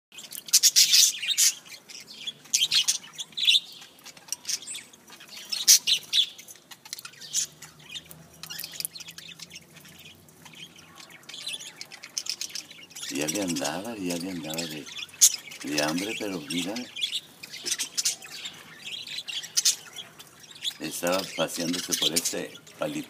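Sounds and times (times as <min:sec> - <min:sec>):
birds chirping: 0:00.1 - 0:23.0.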